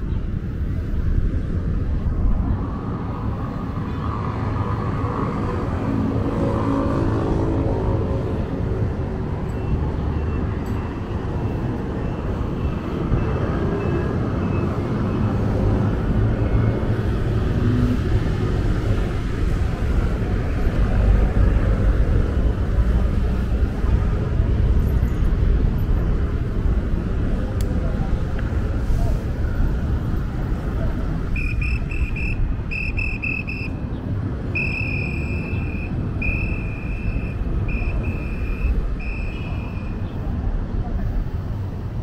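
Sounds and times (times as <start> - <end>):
cars passing in traffic: 0.0 - 42.0.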